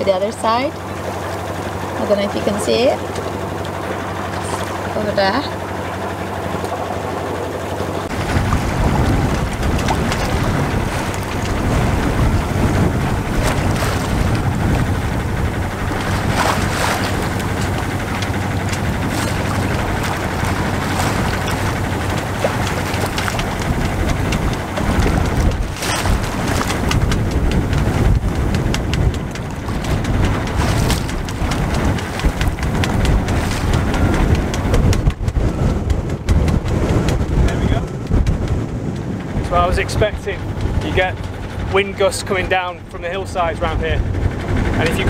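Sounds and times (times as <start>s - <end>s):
sea water splashing on hull: 0.0s - 45.0s
wind buffeting microphone: 0.0s - 45.0s.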